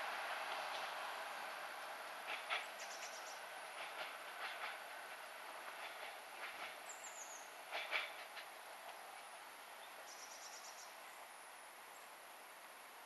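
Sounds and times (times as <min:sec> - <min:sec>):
wheels clicking over rail joints: 0:00.0 - 0:10.8
diesel train engine and wheels: 0:00.0 - 0:13.0.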